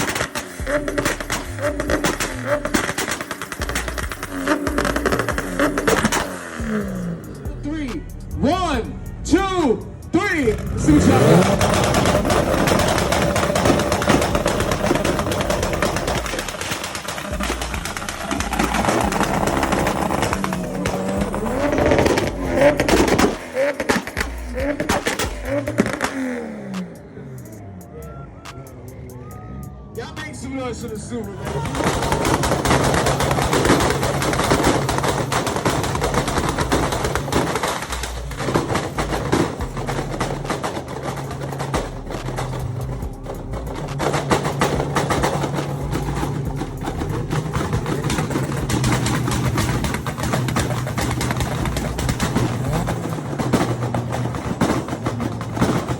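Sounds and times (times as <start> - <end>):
car engine on launch limiter: 0.0 - 55.9
exhaust pops crackling: 0.0 - 55.9.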